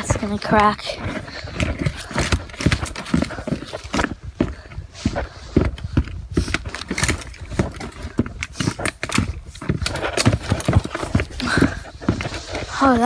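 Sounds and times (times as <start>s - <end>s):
footsteps crunching on icy ground: 0.0s - 13.0s.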